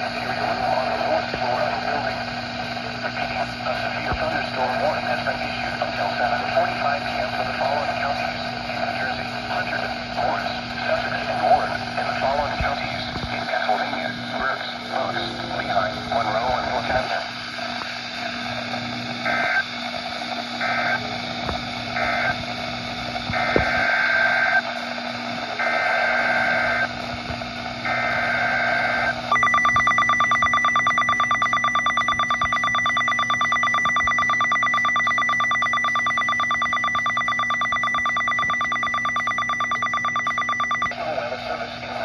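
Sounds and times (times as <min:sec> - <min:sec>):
steady warning alarm tone: 0:00.0 - 0:41.4
radio hiss: 0:00.0 - 0:42.0
warbling data tone bursts: 0:00.2 - 0:21.1, 0:21.7 - 0:27.1, 0:27.7 - 0:41.0.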